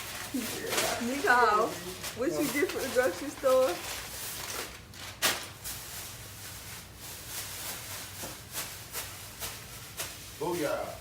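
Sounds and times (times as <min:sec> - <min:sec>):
grocery bags rustling: 0:00.0 - 0:11.0.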